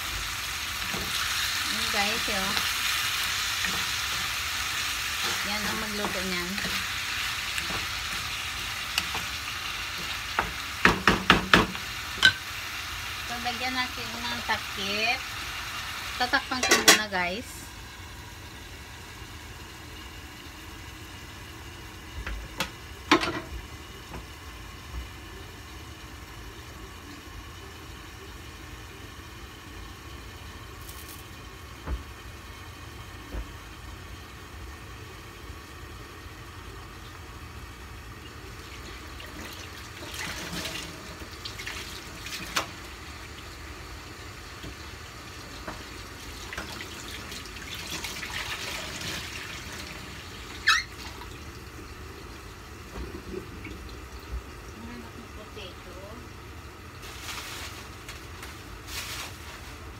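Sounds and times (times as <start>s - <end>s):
chicken sizzling in a pan: 0.0s - 59.9s.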